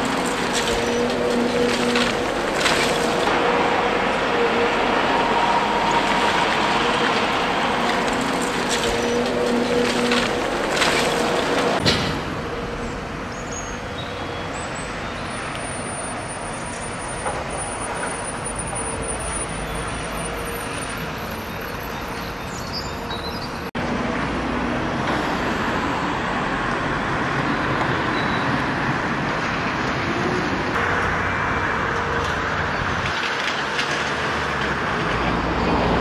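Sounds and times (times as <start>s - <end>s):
road traffic noise: 0.0s - 36.0s
truck diesel engines running: 0.0s - 36.0s.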